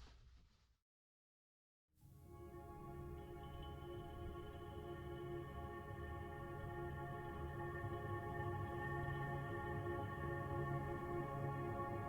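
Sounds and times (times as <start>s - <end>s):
soft sustained music: 2.1s - 12.0s.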